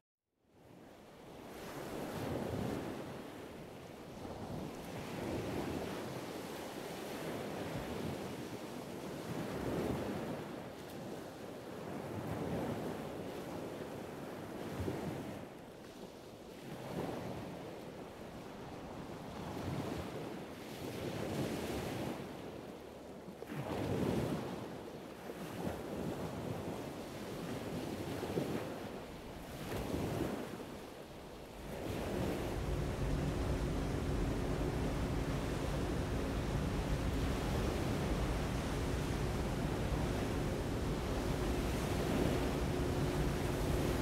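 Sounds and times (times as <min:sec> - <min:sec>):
waves washing and lapping: 0:01.0 - 0:44.0.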